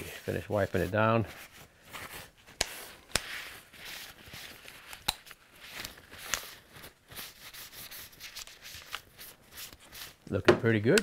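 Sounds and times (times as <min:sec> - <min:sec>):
paper towel rustling: 0:00.0 - 0:10.2.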